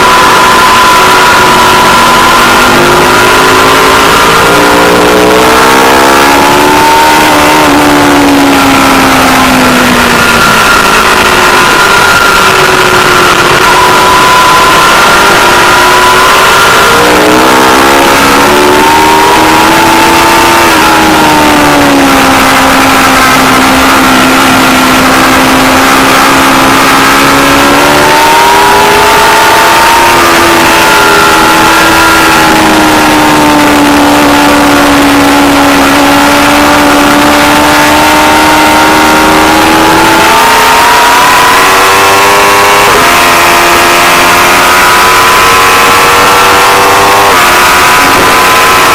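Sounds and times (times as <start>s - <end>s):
motorcycle engine running hard: 0.0s - 48.9s.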